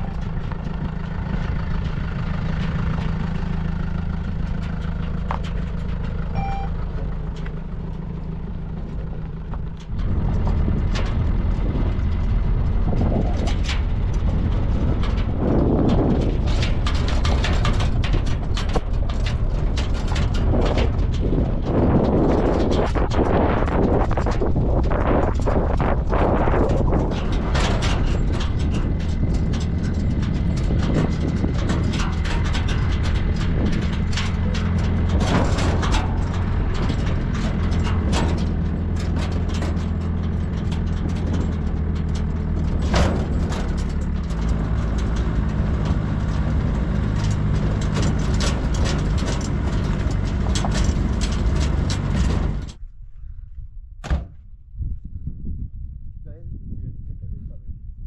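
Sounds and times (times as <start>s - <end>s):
truck body knocks and rattles: 0.0s - 52.8s, 54.0s - 54.5s
pickup truck engine running: 0.0s - 52.9s.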